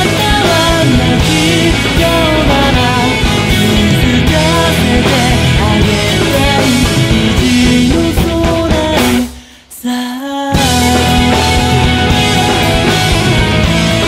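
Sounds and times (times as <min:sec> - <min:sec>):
drum kit: 0:00.0 - 0:09.6, 0:10.5 - 0:14.0
electric guitar: 0:00.0 - 0:09.6, 0:10.5 - 0:14.0.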